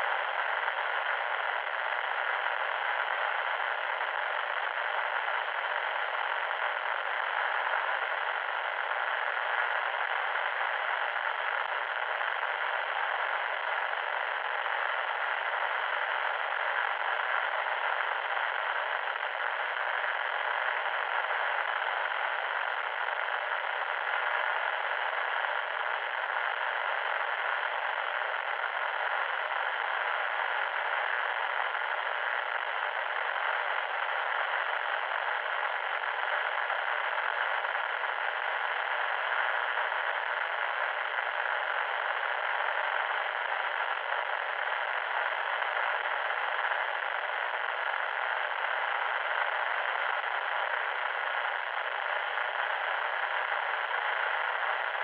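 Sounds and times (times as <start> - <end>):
loud static hiss: 0.0 - 55.0.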